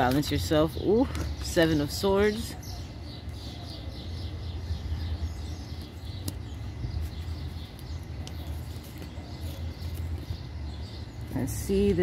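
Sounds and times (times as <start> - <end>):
faint bird chirping: 0.0 - 12.0
steady low rumble: 0.0 - 12.0.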